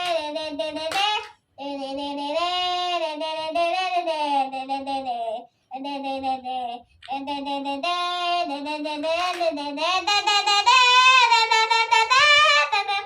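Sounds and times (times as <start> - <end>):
child singing with vibrato: 0.0 - 13.0.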